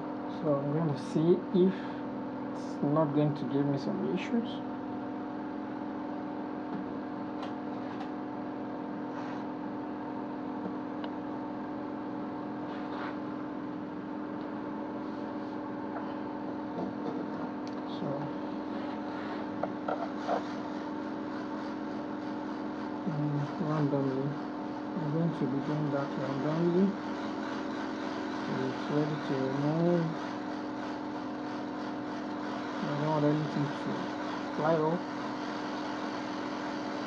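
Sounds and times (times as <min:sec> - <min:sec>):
hot air blower humming: 0:00.0 - 0:37.0.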